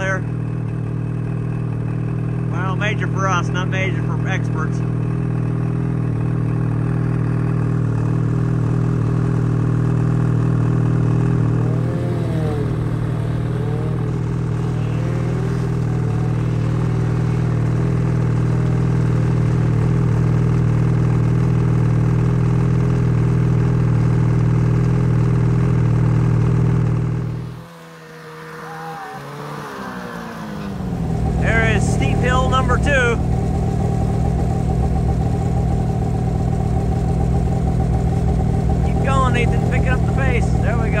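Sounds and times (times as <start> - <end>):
snowmobile engine running: 0.0 - 41.0.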